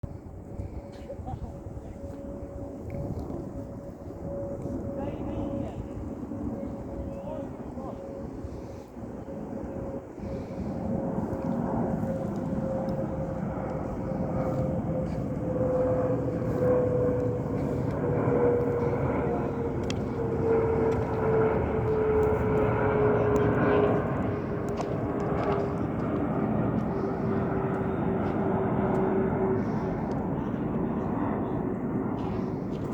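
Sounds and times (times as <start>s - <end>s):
jet aircraft flying over: 0.0s - 32.9s
jet engine whine falling in pitch: 0.1s - 32.9s.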